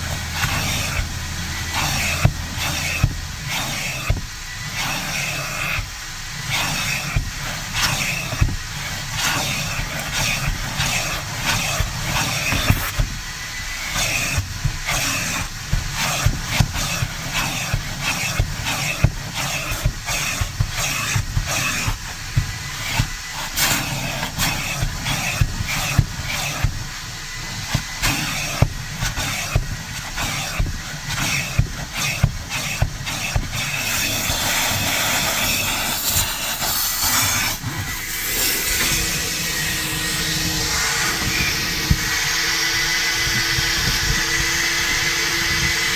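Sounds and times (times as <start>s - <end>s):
vacuum nozzle knocking: 0.0s - 45.9s
vacuum suction rushing: 0.0s - 45.9s.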